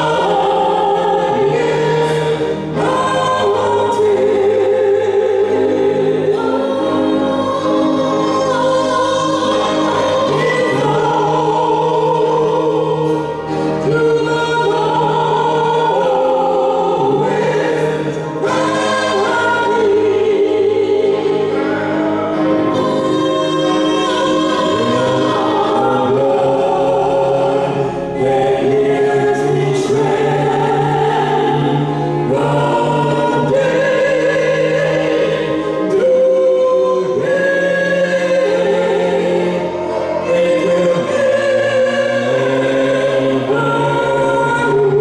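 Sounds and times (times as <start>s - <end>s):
organ: 0.0s - 45.0s
people singing a hymn: 0.0s - 45.0s
piano: 0.0s - 45.0s.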